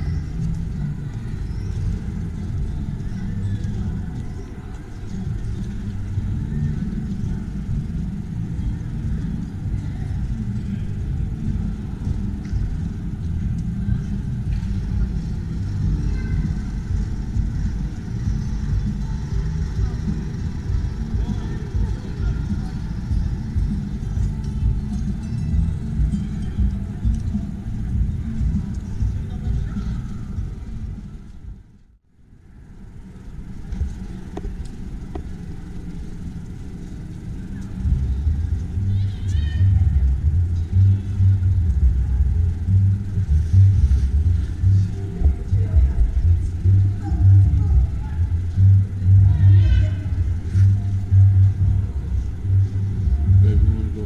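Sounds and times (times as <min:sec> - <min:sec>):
faint voices: 0:00.0 - 0:54.0
low fluttering rumble: 0:00.0 - 0:54.0.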